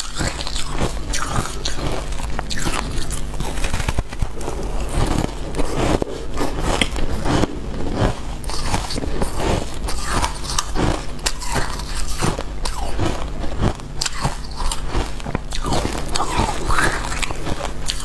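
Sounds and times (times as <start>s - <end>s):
frost being chewed crunching: 0.0s - 18.0s.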